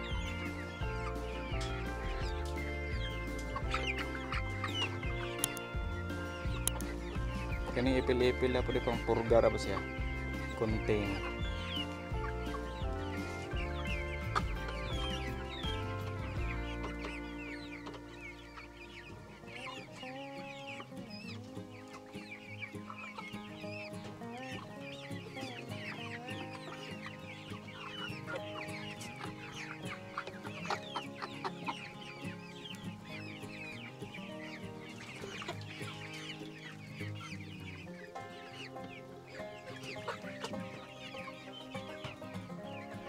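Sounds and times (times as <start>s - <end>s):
background music: 0.0s - 43.0s
hens clucking: 0.0s - 43.0s.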